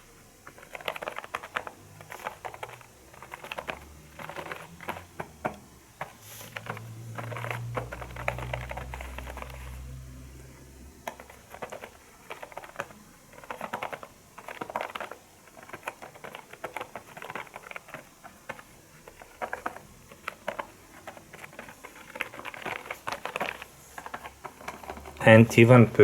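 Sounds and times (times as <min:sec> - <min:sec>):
keyboard typing: 0:00.0 - 0:26.0.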